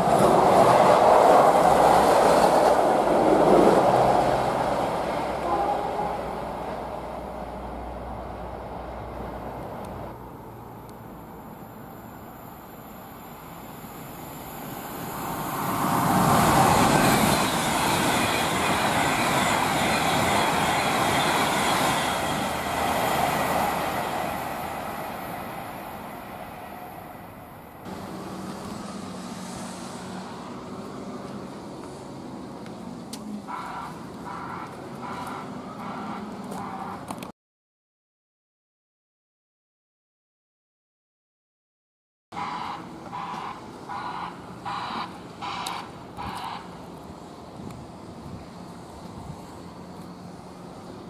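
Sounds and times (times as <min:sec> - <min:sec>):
diesel locomotive engine rumbling: 0:00.0 - 0:37.2, 0:42.4 - 0:51.0
express train passing: 0:00.0 - 0:37.2, 0:42.4 - 0:51.0.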